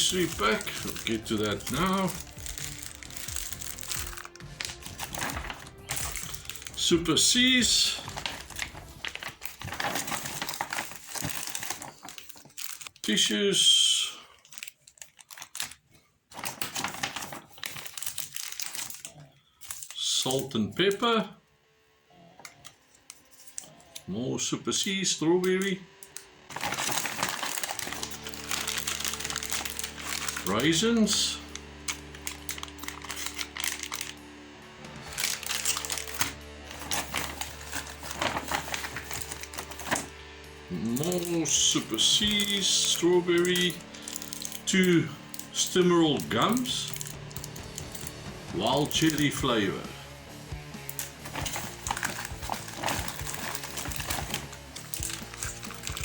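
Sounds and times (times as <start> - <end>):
plastic wrap crinkling: 0.0 - 13.4, 14.1 - 21.0, 26.0 - 50.0, 50.6 - 56.0
soft background music: 0.0 - 15.4, 19.8 - 56.0
plastic packets rustling: 0.0 - 21.1, 22.5 - 24.1, 25.5 - 56.0.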